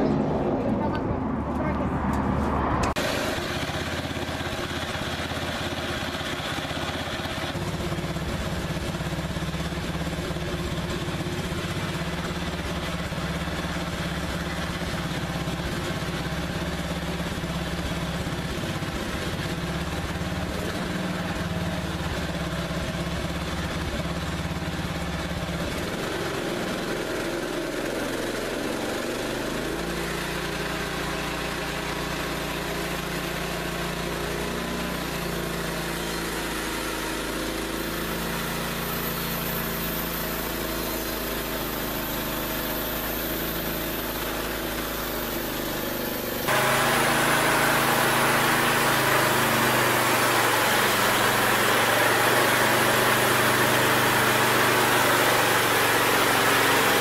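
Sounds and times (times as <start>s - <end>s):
sawmill engine drone: 0.0s - 57.0s.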